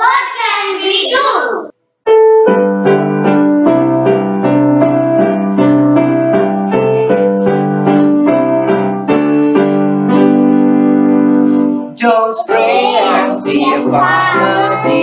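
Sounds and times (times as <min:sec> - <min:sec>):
piano-like keyboard tune: 0:02.1 - 0:15.0.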